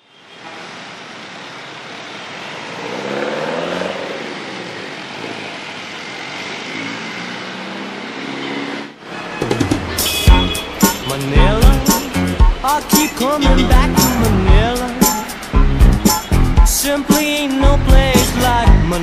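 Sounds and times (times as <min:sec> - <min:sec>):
passing cars: 0:00.3 - 0:19.0.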